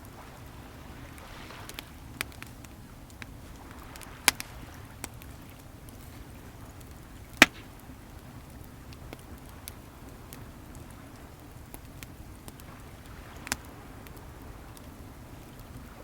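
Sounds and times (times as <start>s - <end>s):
sea waves: 0.0s - 16.0s
wood fire crackling: 0.0s - 16.0s.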